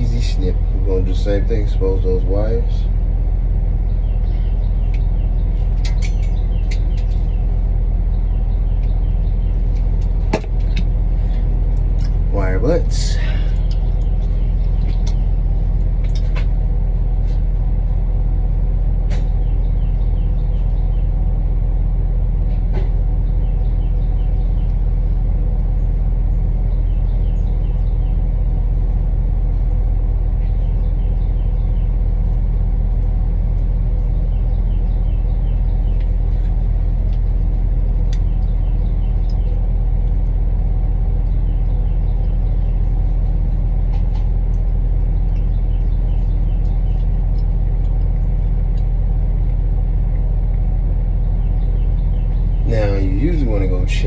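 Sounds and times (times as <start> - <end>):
low engine-like rumble: 0.0 - 54.0.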